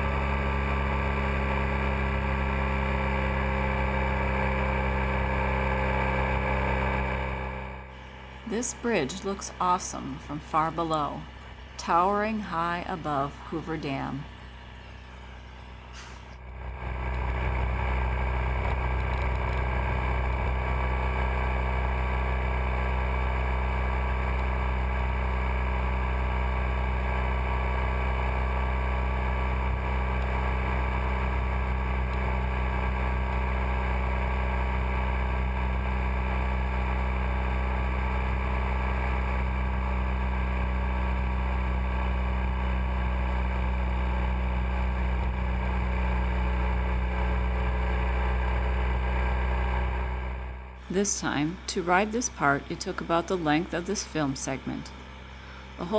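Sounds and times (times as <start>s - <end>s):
motorcycle engine drone: 0.0s - 55.9s.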